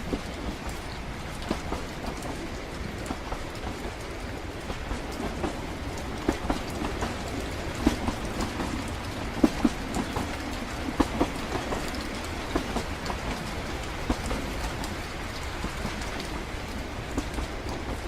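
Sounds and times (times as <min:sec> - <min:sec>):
train carriage rumble: 0:00.0 - 0:18.0
wheels clicking and knocking: 0:00.0 - 0:18.0.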